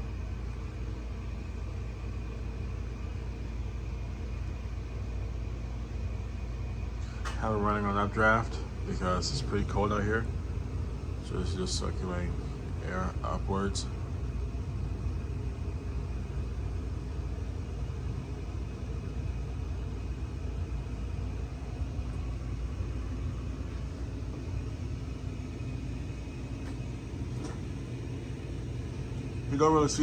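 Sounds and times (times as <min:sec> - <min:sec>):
ceiling fan running: 0:00.0 - 0:30.0.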